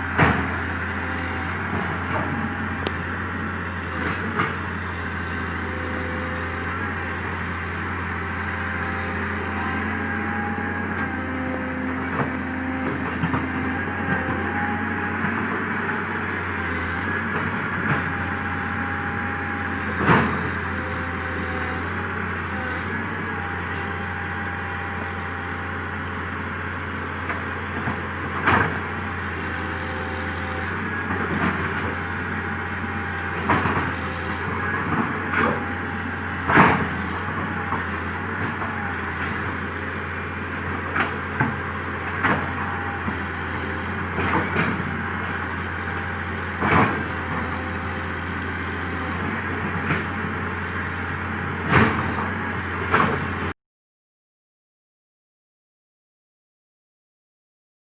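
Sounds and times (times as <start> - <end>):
excavator diesel engine running: 0.0 - 53.6.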